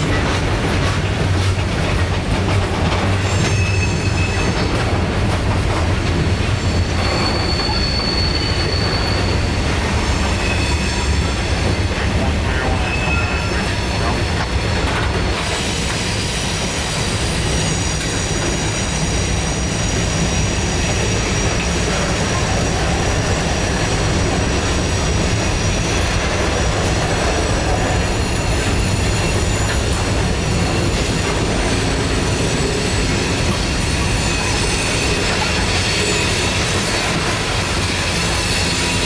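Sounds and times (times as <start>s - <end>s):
steel wheels rumbling on rail: 0.0s - 39.0s
high wheel squeal: 3.0s - 5.0s, 6.2s - 39.0s.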